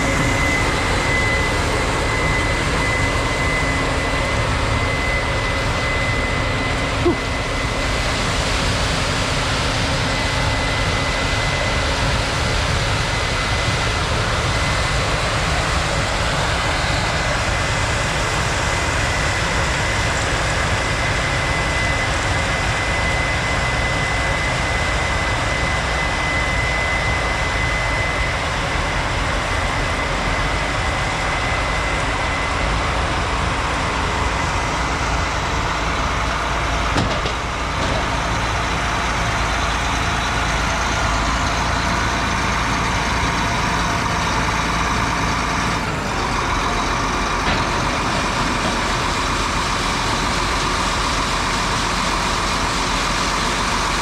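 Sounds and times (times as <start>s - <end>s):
combine harvester running: 0.0s - 54.0s
constant high whine: 0.0s - 54.0s.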